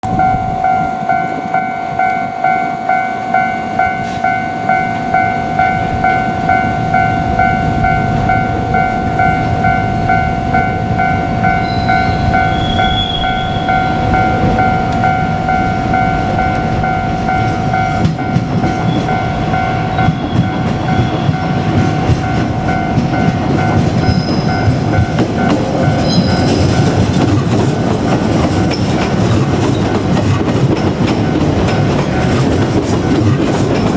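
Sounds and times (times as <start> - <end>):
level-crossing bell ringing: 0.0 - 30.0
electric train rumbling: 0.0 - 33.9
train wheels clattering on rails: 0.1 - 33.9.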